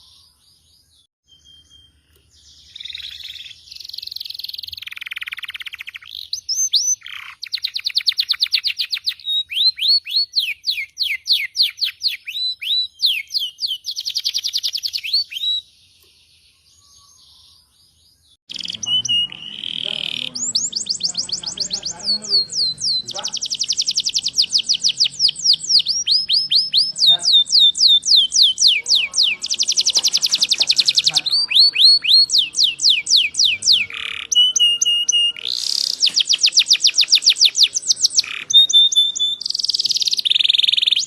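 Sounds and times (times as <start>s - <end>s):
canary singing trills: 0.0s - 41.0s.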